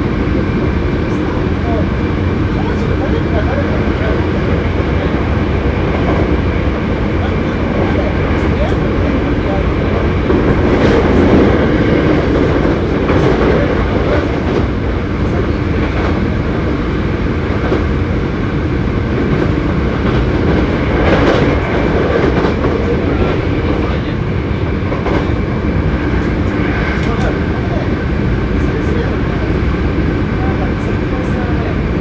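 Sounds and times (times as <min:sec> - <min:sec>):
electric train rumbling: 0:00.0 - 0:32.0.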